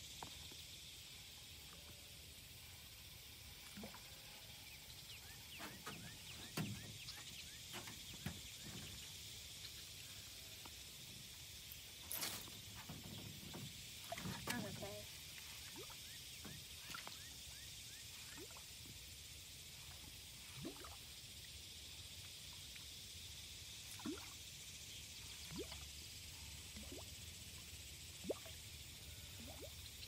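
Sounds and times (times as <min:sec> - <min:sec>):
faint high hiss: 0:00.0 - 0:30.0.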